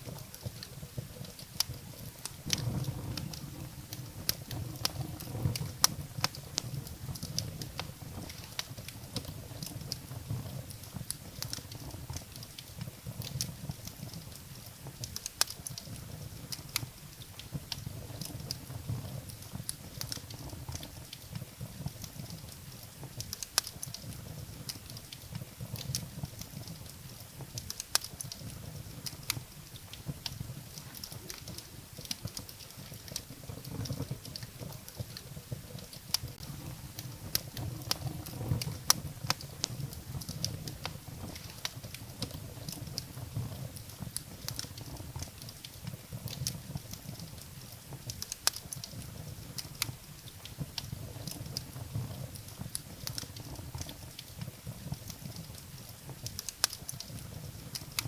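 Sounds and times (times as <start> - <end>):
firewood crackling and popping: 0.0 - 58.0
flames rumbling: 0.0 - 58.0.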